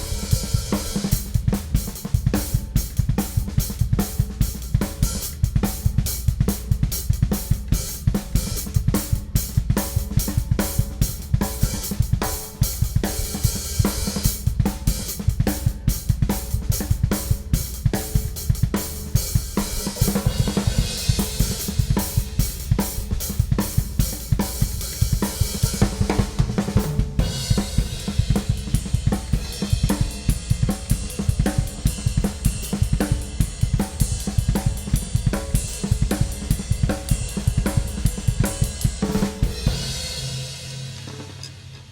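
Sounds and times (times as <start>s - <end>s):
drum kit groove: 0.0s - 41.9s.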